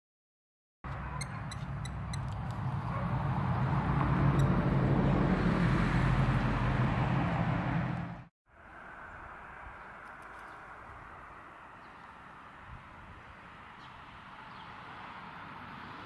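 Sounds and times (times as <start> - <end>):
road traffic rumble: 0.8 - 16.0.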